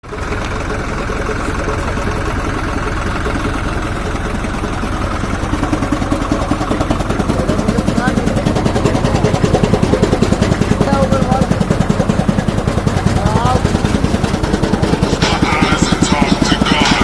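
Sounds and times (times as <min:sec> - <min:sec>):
fast even pulsing: 0:00.0 - 0:17.0
tractor engine drone: 0:00.0 - 0:17.0.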